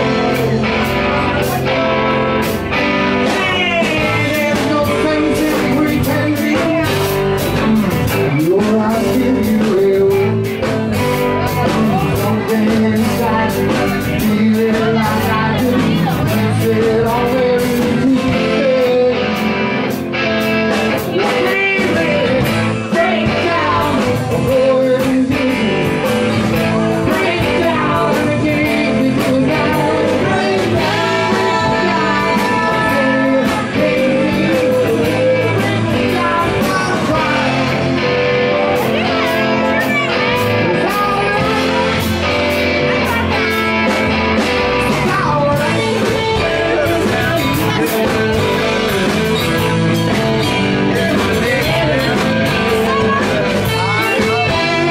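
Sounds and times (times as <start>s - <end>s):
live rock band playing: 0.0s - 54.9s
person singing: 0.0s - 54.9s.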